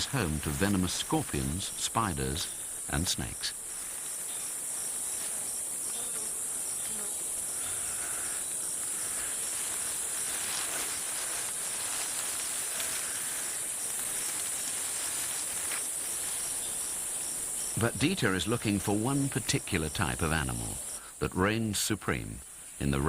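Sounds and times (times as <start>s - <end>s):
faint scattered calls: 0.0s - 21.0s
insects trilling in chorus: 0.1s - 21.2s.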